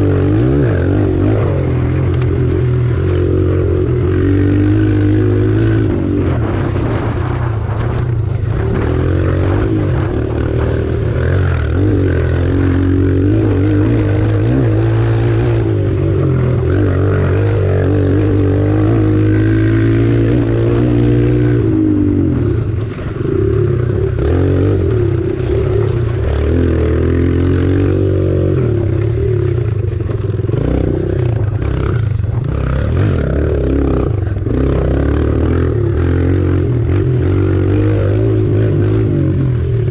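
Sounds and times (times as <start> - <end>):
motorbike engine revving: 0.0 - 39.9
steady low rumble: 0.0 - 39.9.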